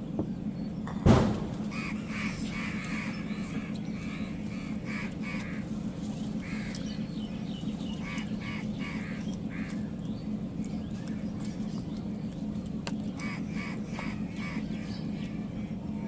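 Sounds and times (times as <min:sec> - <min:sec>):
steady low hum: 0:00.0 - 0:16.0
animal calls: 0:01.6 - 0:11.9, 0:13.1 - 0:15.9.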